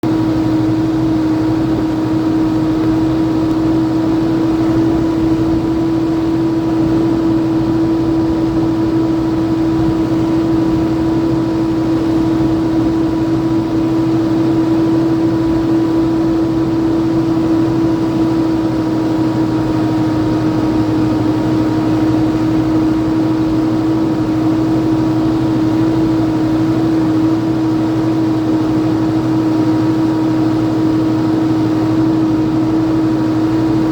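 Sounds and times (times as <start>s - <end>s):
engine humming steadily: 0.0s - 33.9s.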